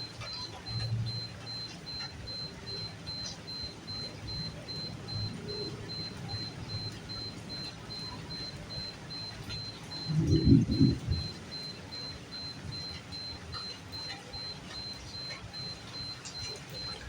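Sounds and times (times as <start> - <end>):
water drip clicks: 0.0 - 17.0.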